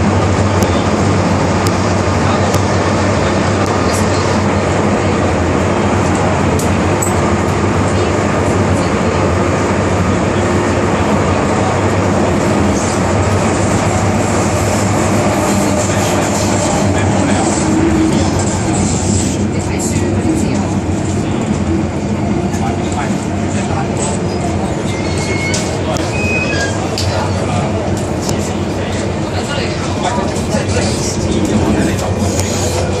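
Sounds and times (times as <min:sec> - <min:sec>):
train rail rumble: 0:00.0 - 0:33.0.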